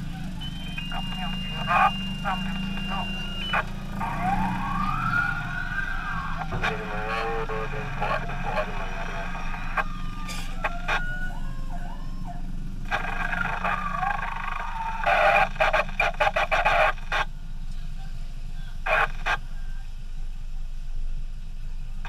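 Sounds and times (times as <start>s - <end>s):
two-way radio transmissions crackling: 0.0s - 20.9s
vehicle engine idling: 0.0s - 22.0s.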